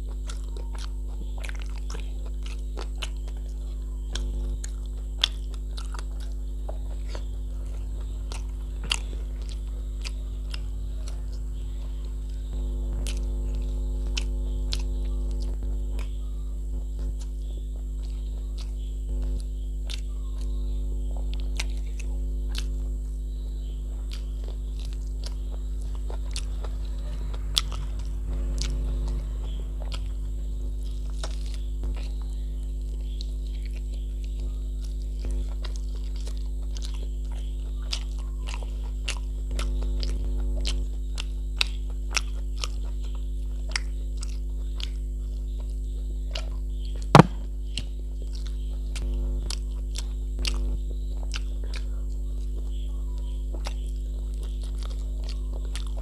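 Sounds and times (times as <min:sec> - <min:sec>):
electrical hum: 0:00.0 - 0:56.0
wet mouth clicks chewing: 0:00.0 - 0:56.0.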